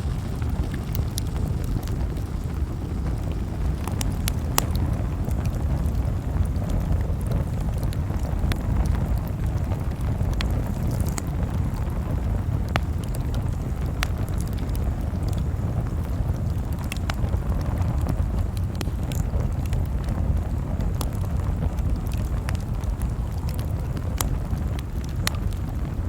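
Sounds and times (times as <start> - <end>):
burning wood crackles and pops: 0.0 - 26.0
campfire flame rumble: 0.0 - 26.0.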